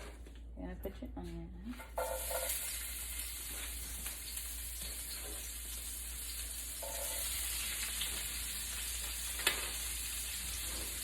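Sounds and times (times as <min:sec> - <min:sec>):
onion sizzling in grease: 0:02.0 - 0:11.0.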